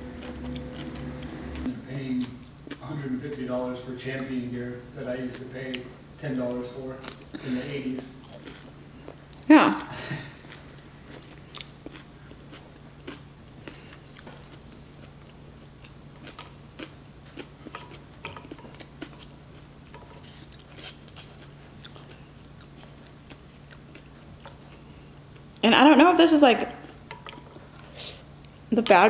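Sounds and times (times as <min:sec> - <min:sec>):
chewing and crunching food: 0:00.0 - 0:04.4, 0:05.1 - 0:25.6, 0:26.7 - 0:29.0
faint low hum: 0:00.0 - 0:29.0.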